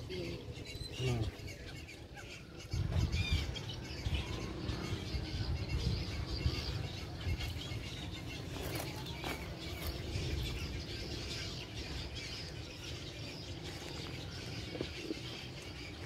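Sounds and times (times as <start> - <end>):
bird calls and chatter: 0.0 - 16.0.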